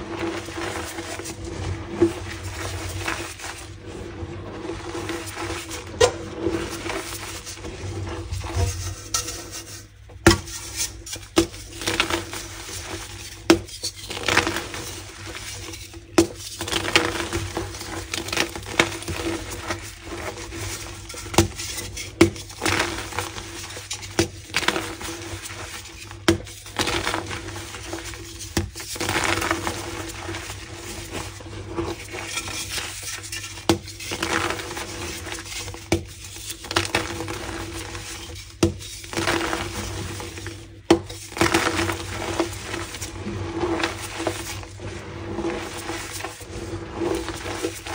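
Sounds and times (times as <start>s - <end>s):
chalk crunching and crumbling: 0.0s - 47.9s.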